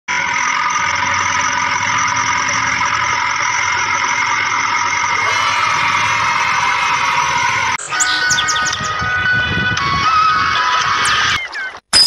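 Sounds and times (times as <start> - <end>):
engine running: 0.1 - 11.4.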